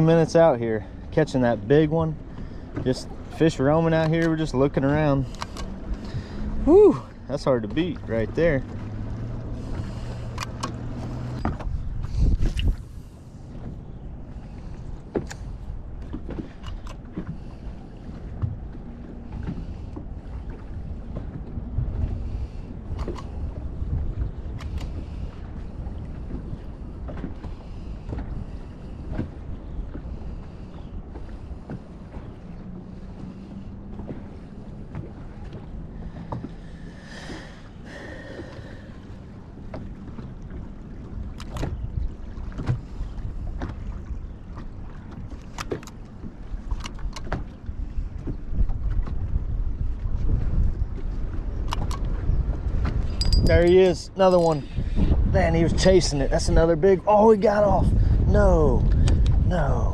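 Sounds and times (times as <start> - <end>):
water knocking and slapping hull: 0.0 - 59.9
waves lapping against boat hull: 0.0 - 59.9
wind rumbling on microphone: 0.0 - 59.9.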